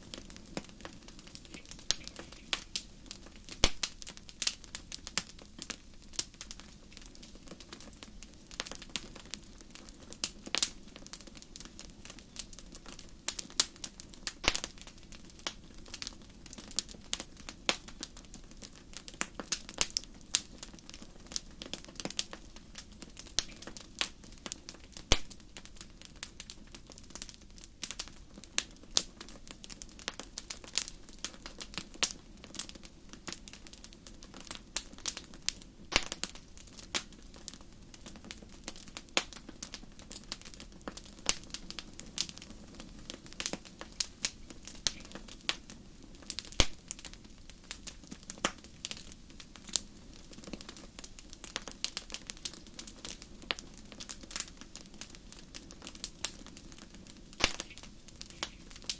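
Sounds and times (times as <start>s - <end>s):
fire crackling and popping: 0.0s - 58.9s
low rumble of flames: 0.0s - 58.9s.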